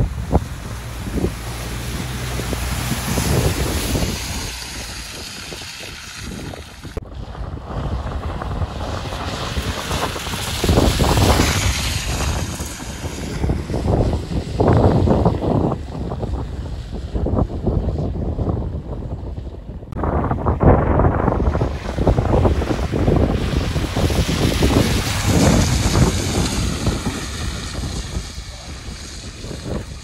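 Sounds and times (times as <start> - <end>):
tyres splashing through mud: 0.0 - 17.1, 21.4 - 30.0
wind on microphone: 0.0 - 30.0.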